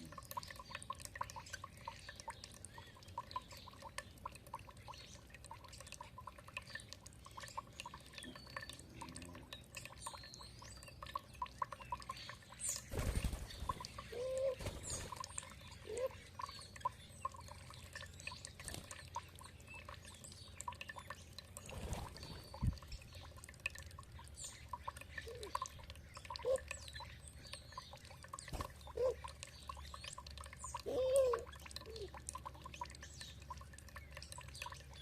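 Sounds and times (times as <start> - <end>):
birds chirping: 0.0 - 35.0
water trickling and dripping: 0.0 - 35.0.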